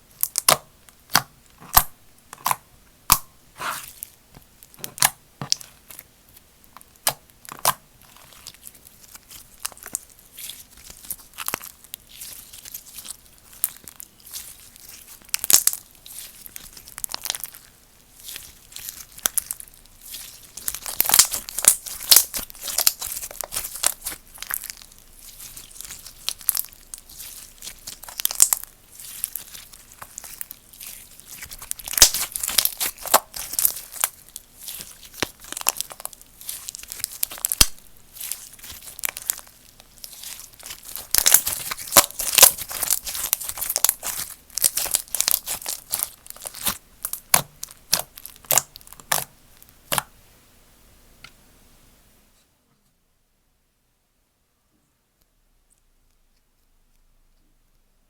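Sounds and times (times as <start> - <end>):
slime crackling and squishing: 0.1 - 50.1.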